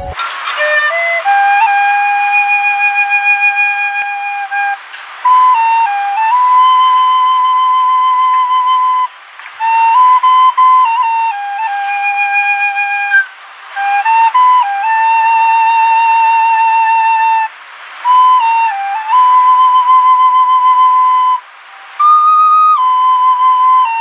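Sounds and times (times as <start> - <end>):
solo melody with held notes: 0.8 - 13.2, 13.8 - 17.5, 18.1 - 24.0.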